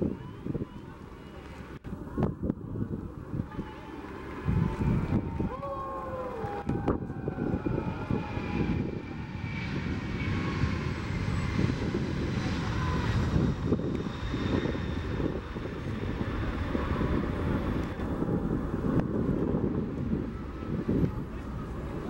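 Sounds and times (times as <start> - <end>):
jet engines rumbling at takeoff: 0.0 - 22.0.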